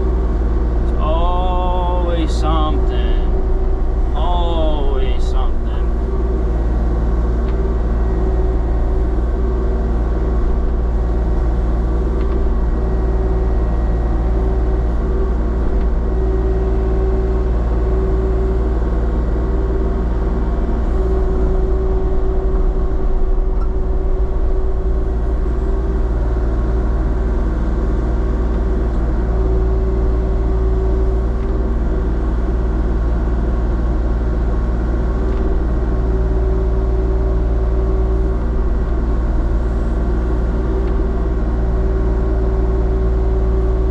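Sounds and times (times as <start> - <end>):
heavy engine droning: 0.0 - 43.9.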